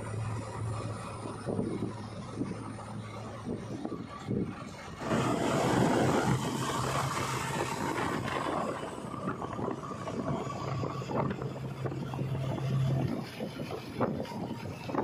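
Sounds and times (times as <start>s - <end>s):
diesel engine running: 0.0s - 15.0s
wind rushing over microphone: 0.0s - 15.0s.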